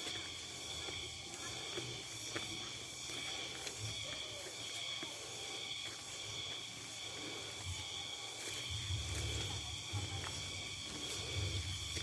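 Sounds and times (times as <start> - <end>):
footsteps on dirt path: 0.0 - 12.0
insect chorus drone: 0.0 - 12.0.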